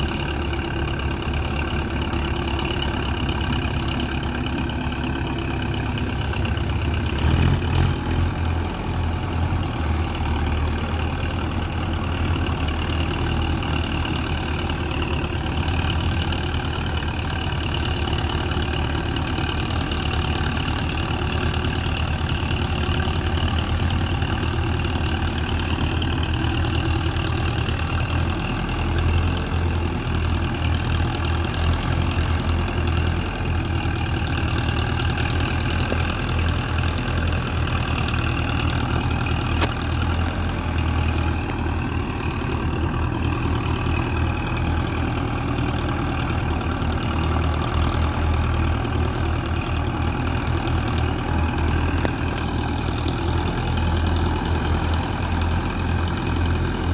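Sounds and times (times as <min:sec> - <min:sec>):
tractor diesel engine chugging: 0:00.0 - 0:56.9.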